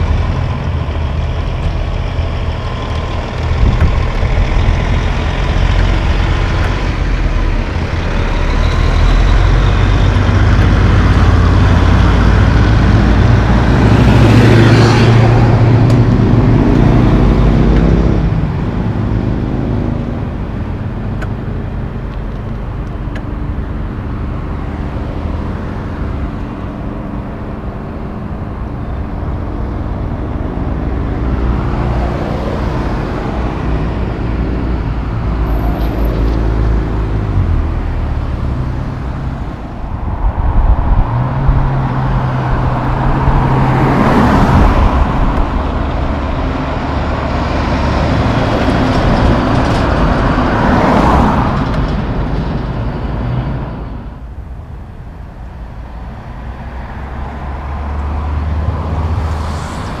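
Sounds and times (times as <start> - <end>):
cars driving past: 0.0 - 60.0
truck diesel engine: 0.0 - 60.0.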